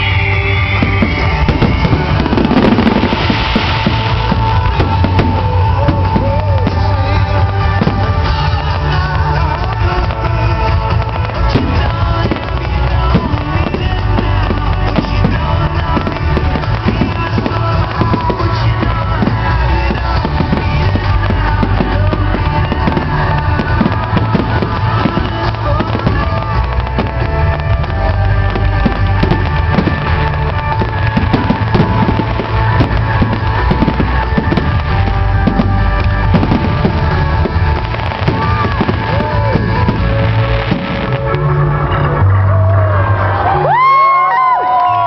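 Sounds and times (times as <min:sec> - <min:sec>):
firework bangs and crackles: 0:00.0 - 0:45.0
loud music with heavy bass: 0:00.0 - 0:45.0.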